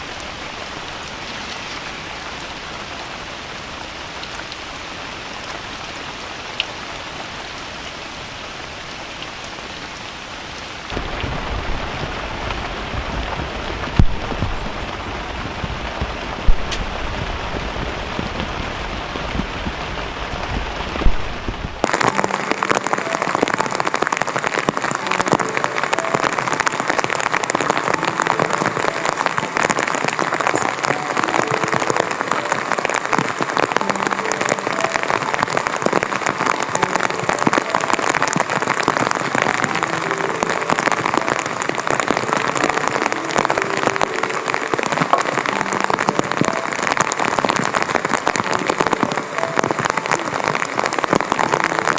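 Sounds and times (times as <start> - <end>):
heavy rain pattering: 0.0 - 51.9.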